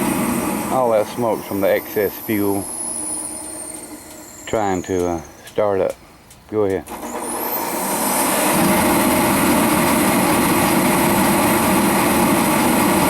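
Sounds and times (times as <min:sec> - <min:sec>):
heater blower roaring: 0:00.0 - 0:13.0.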